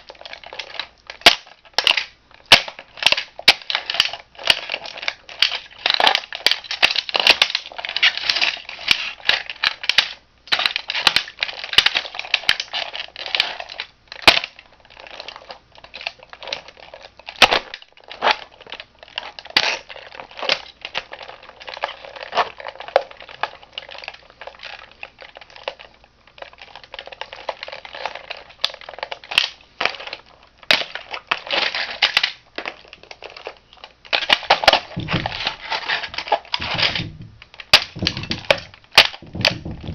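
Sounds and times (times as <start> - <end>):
plastic toy crunching underfoot: 0.0 - 39.9.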